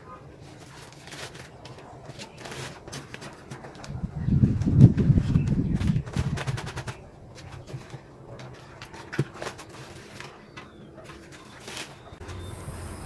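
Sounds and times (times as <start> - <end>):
potting soil scraping: 0.4 - 13.0.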